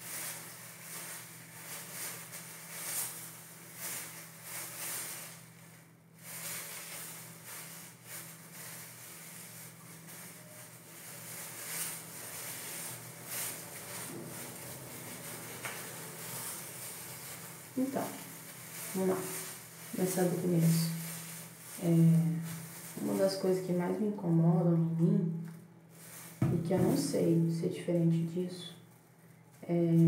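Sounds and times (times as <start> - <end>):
steady low hum: 0.0 - 28.0
plastic gloves crinkling: 0.0 - 30.0.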